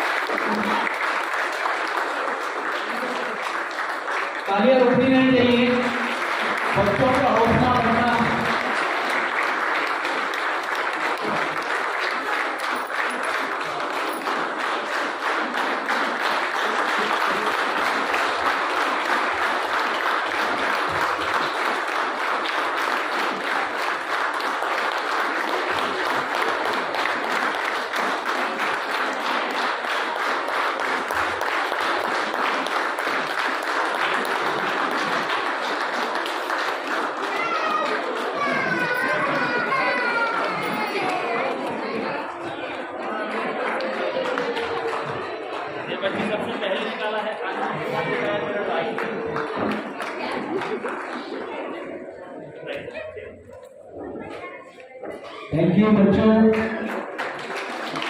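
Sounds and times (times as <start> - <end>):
audience applauding: 0.0 - 53.7, 55.9 - 58.0.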